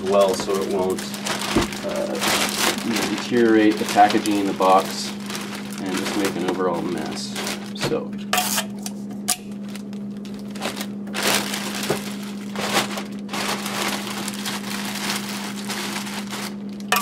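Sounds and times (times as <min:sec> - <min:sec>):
plastic bag rustling and crinkling: 0:00.0 - 0:08.0, 0:09.6 - 0:17.0.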